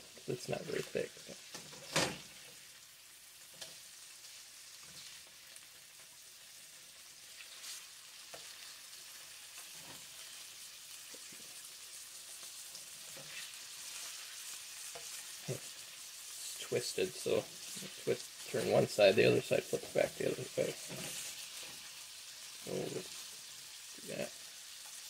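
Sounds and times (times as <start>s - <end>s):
fish sizzling in butter: 0.0s - 25.0s.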